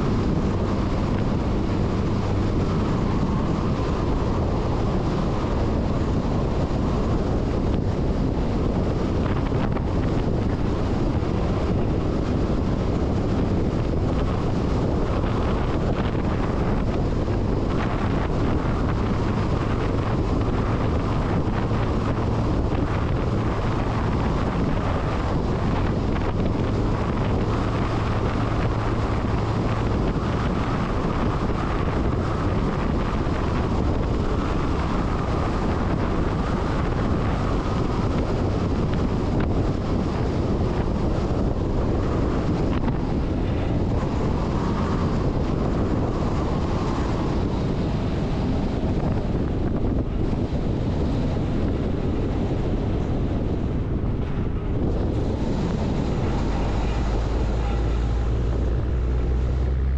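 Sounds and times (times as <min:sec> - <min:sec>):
truck engine drone: 0:00.0 - 0:59.9
wind buffeting a microphone: 0:00.0 - 0:59.9.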